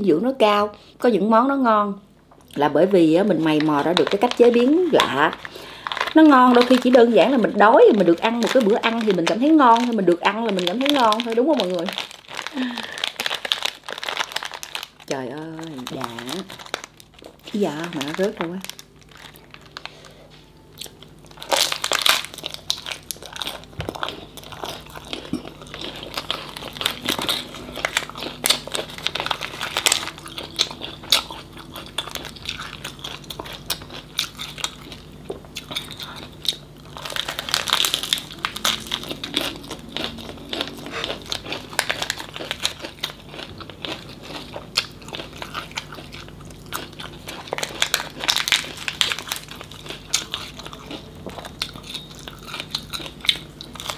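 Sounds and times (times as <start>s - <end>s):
lettuce leaves crinkling: 3.3s - 53.9s
crunchy chewing: 3.5s - 53.9s.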